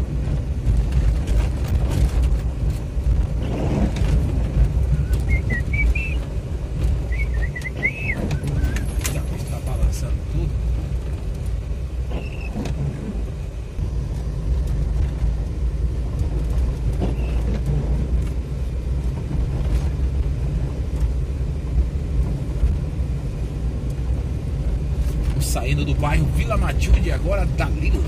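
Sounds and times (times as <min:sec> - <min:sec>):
engine and tyres rumbling: 0:00.0 - 0:28.0.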